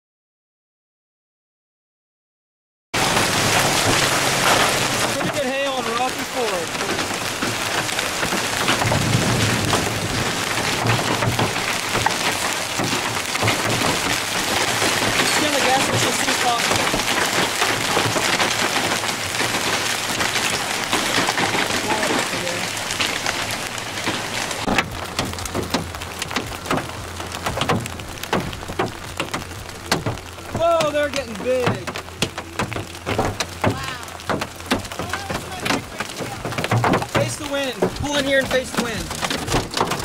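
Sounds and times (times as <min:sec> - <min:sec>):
hailstones knocking: 0:03.0 - 0:40.0
heavy rain pouring: 0:03.0 - 0:40.0.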